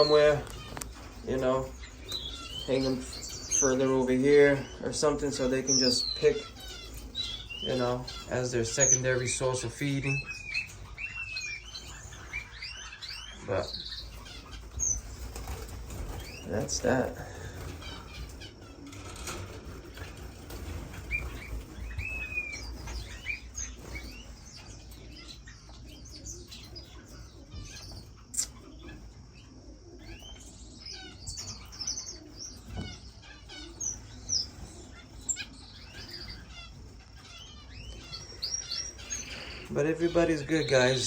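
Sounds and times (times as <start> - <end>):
finches chirping and calling: 0.0 - 41.0.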